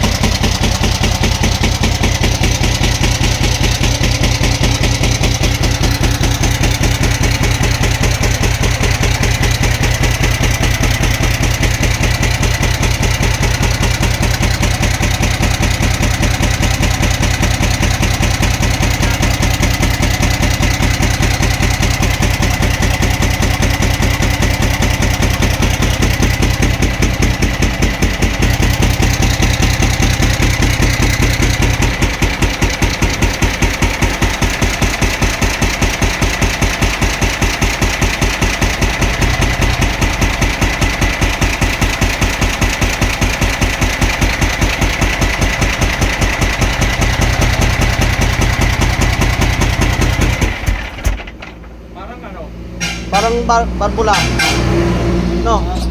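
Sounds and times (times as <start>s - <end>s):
engine knocking: 0.0s - 51.8s, 52.8s - 54.7s
truck engine idling: 0.0s - 55.9s.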